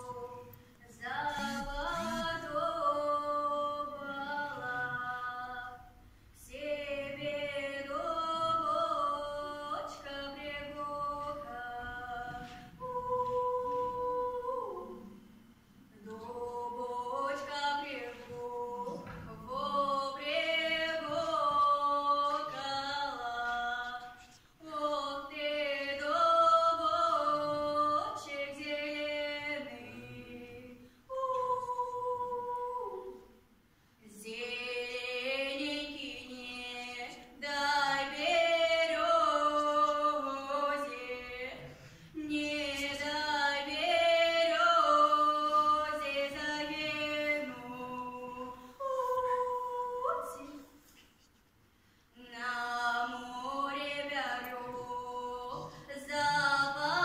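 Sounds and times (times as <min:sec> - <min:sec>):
woman singing unaccompanied: 0:00.0 - 0:15.2, 0:15.9 - 0:33.4, 0:34.0 - 0:50.8, 0:52.2 - 0:57.0.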